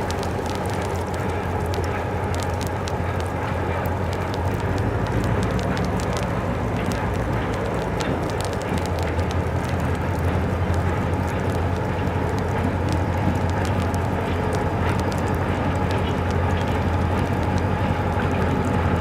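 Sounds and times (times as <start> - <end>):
diesel locomotive droning: 0.0 - 19.0
sleet and rain ticking: 0.0 - 19.0.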